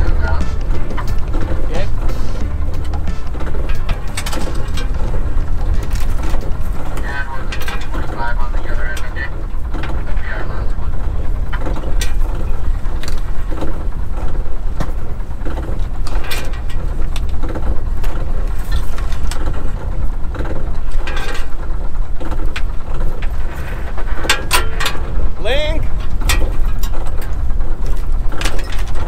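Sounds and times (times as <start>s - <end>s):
boat engine running: 0.0s - 29.0s
gear clicking and clanking: 0.0s - 29.0s.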